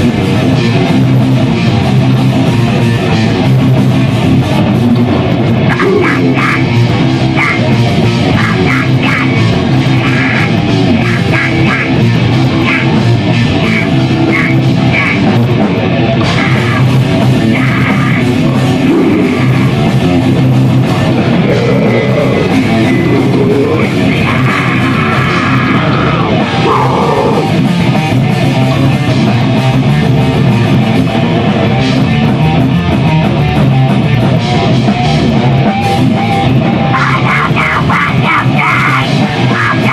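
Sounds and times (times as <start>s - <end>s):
guitar rock music: 0.0s - 39.9s.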